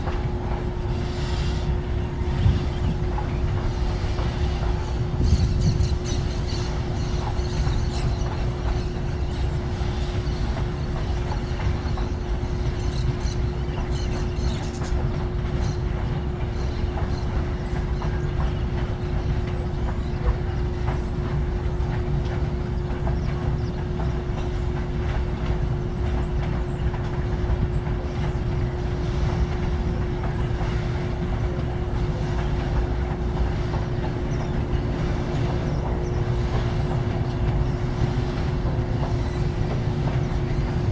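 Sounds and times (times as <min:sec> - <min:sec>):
freight train wheels rumbling on rail: 0:00.0 - 0:40.9.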